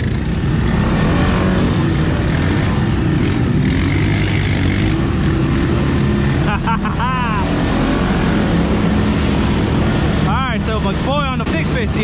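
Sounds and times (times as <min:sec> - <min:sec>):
atv engines revving: 0:00.0 - 0:12.0.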